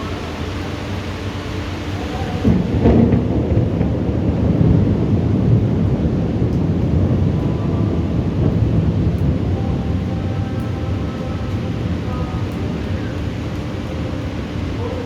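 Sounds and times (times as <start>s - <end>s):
thunder crack and rumble: 0.0s - 15.0s.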